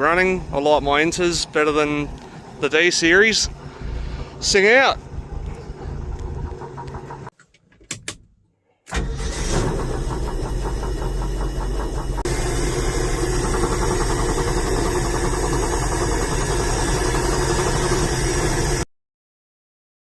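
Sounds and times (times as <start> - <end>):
truck engine running: 0.0 - 7.3, 9.0 - 18.8.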